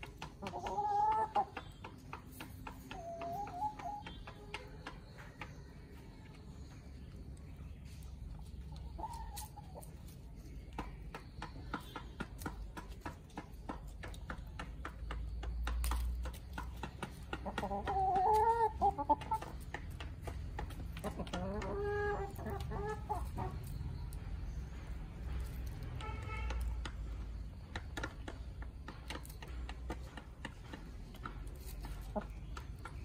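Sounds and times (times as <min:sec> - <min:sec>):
birds pecking taps: 0:00.0 - 0:05.9, 0:09.0 - 0:33.0
chickens clucking: 0:00.0 - 0:33.0.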